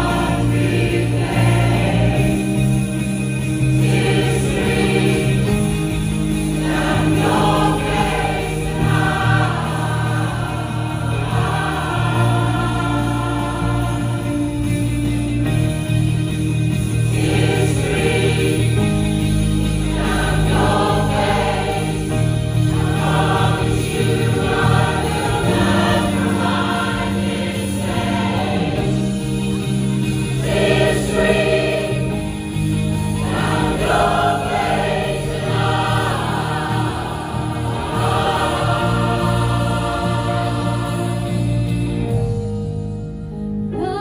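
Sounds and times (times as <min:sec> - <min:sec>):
choir singing in harmony: 0:00.0 - 0:42.4.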